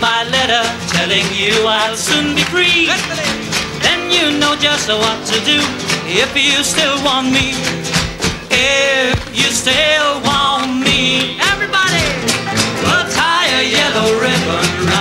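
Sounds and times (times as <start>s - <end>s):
acoustic guitar strumming: 0.0s - 15.0s
man singing: 0.0s - 15.0s.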